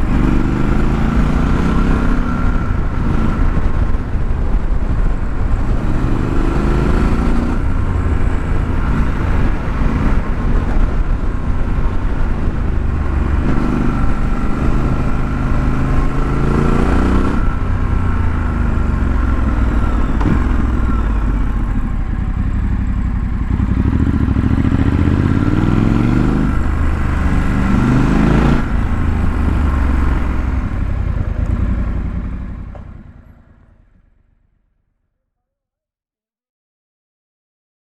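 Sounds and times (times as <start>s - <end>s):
motorcycle engine revving: 0.0s - 34.3s.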